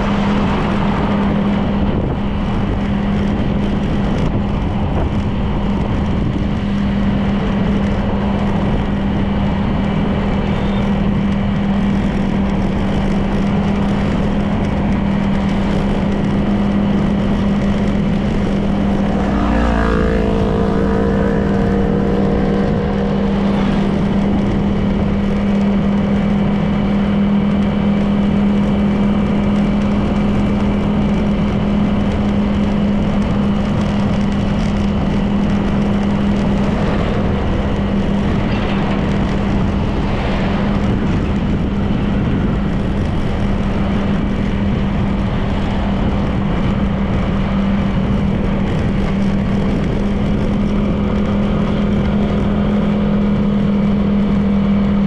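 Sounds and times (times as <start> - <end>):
passing vehicle engine: 0.0 - 55.0
road noise: 0.0 - 55.0
scooter engine cruising drone: 0.0 - 55.0.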